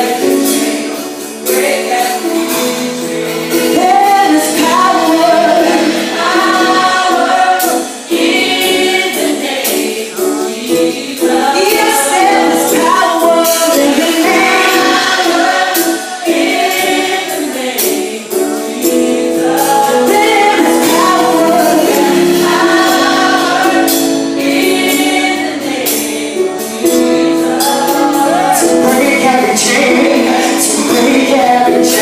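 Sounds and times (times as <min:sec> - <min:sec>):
sharp percussion strokes: 0:00.0 - 0:32.0
vocal group singing: 0:00.0 - 0:32.0.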